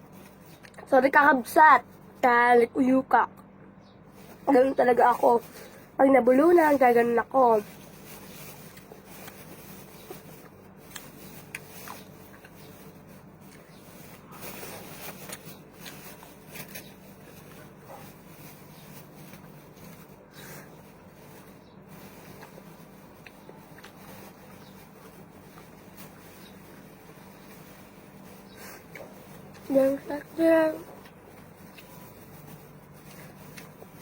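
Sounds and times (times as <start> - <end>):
eating and food-handling noises: 0.0 - 34.0.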